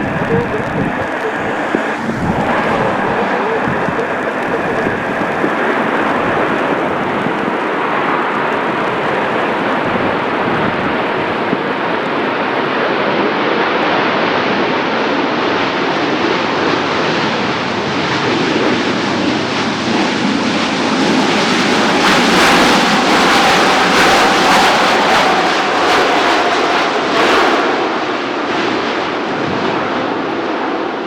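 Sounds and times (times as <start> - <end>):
jet engines rushing: 0.0 - 14.6, 15.4 - 28.3.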